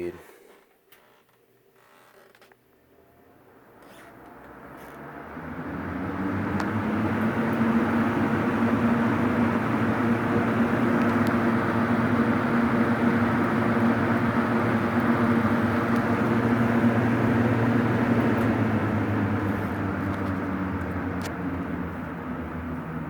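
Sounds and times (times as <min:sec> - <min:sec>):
box fan running: 0:02.8 - 0:23.0.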